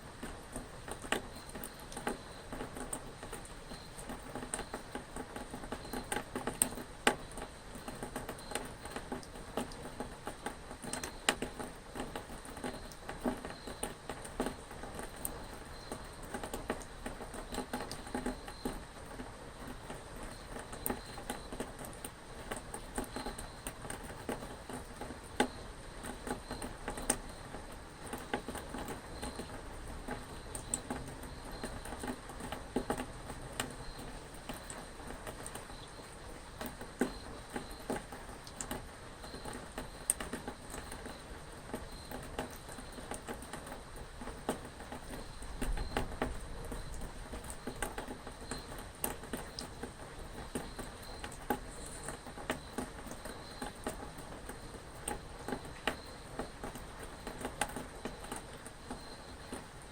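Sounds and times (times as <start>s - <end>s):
raindrops pattering: 0.0s - 59.9s.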